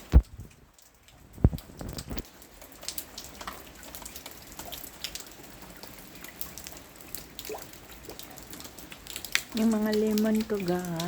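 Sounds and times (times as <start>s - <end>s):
raindrops dripping: 0.0s - 11.0s.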